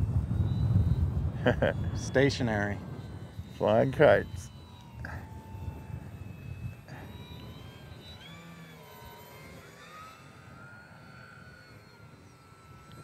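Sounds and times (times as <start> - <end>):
model plane motor whining: 0.0 - 13.0
wind rumbling on microphone: 0.0 - 13.0.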